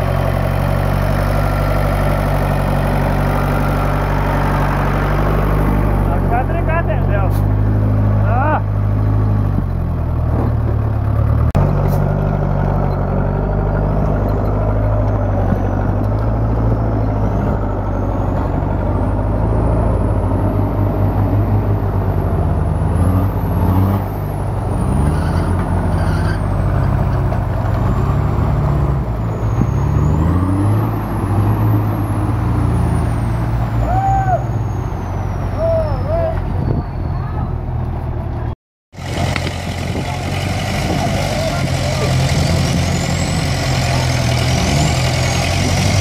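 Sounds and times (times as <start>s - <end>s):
road noise rumbling: 0.0s - 46.0s
vehicle engine droning: 0.0s - 46.0s.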